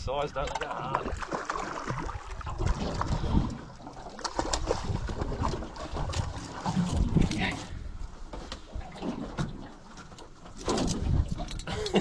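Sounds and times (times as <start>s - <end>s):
water splashing around boat hull: 0.3s - 12.0s.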